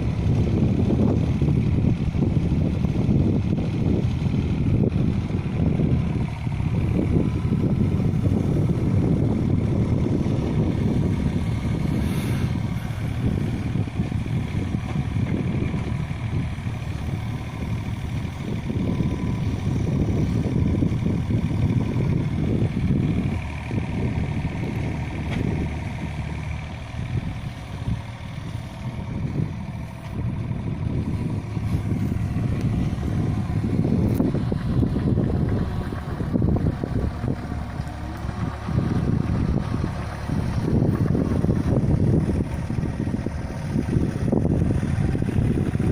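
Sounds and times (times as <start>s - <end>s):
excavator diesel engine rumble: 0.0s - 45.9s.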